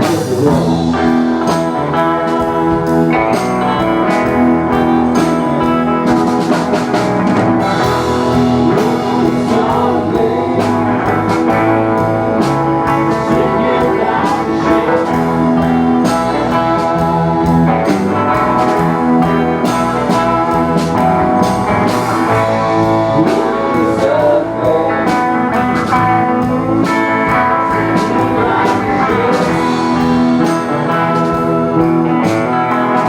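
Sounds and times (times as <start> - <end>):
bass guitar: 0.0 - 33.0
drum kit: 0.0 - 33.0
electric guitar: 0.0 - 33.0
person singing: 0.0 - 33.0.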